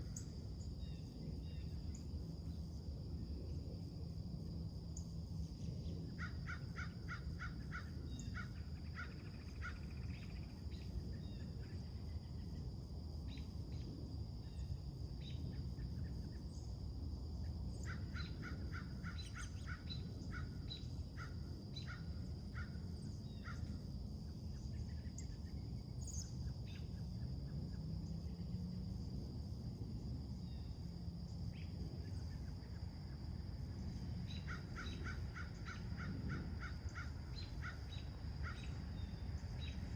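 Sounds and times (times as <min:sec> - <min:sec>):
low background rumble: 0:00.0 - 0:39.9.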